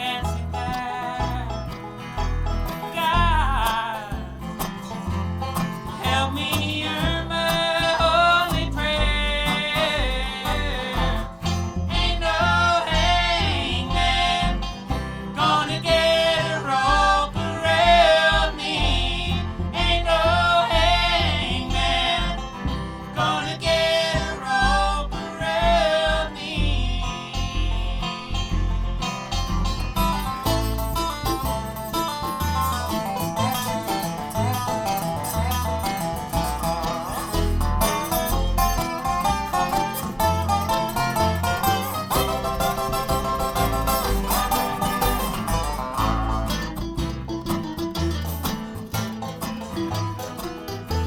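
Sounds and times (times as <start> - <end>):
acoustic guitar: 0.0 - 51.0
steady bass beat: 0.0 - 51.0
bending lead melody: 8.0 - 51.0.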